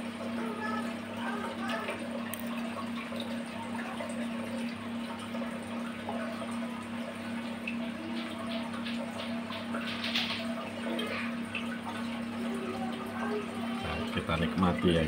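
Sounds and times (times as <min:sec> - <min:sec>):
aquarium filter pump humming: 0:00.0 - 0:15.0
water trickling and splashing: 0:00.0 - 0:15.0
faint drips and ticks: 0:00.6 - 0:15.0.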